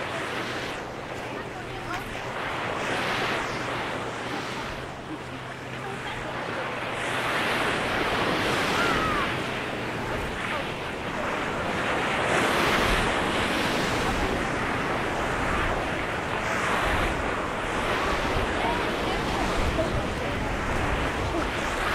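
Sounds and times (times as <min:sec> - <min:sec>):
waves washing on sand: 0:00.0 - 0:21.9.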